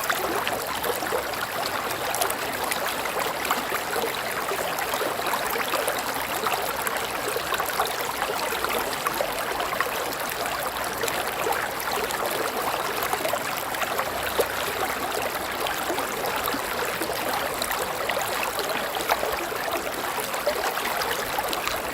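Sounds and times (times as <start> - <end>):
river water rushing and babbling: 0.0 - 21.9.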